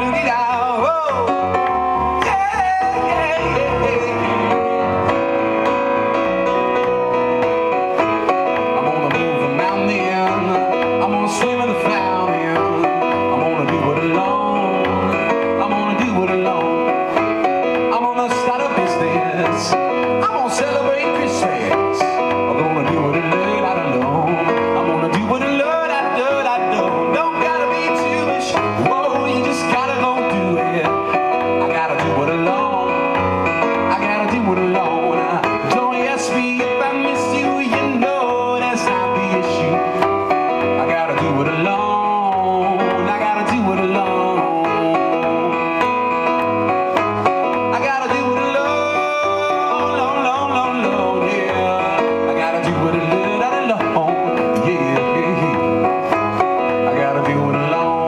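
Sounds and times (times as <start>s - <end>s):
man singing into microphone: 0.0s - 6.9s, 7.6s - 58.0s
digital piano playing: 0.0s - 58.0s.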